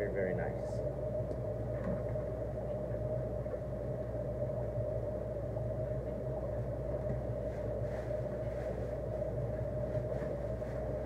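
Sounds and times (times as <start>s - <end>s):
aquarium equipment humming: 0.0s - 11.0s.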